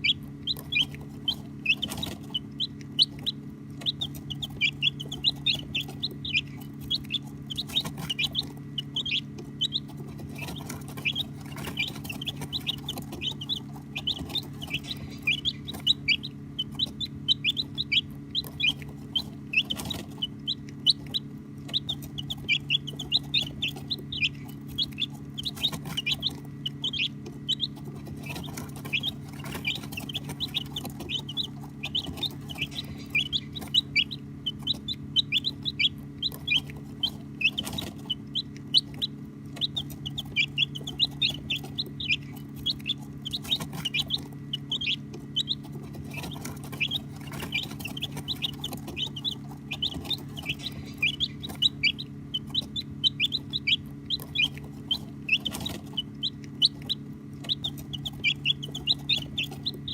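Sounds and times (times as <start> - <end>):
baby chicks peeping: 0.0 - 59.9
steady low hum: 0.0 - 59.9.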